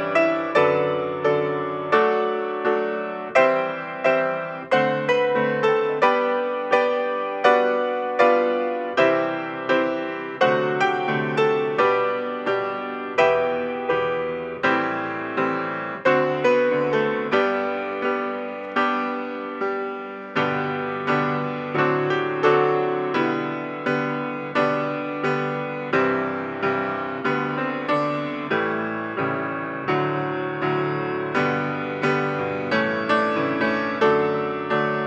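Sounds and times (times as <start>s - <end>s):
solo piano music: 0.0s - 35.0s.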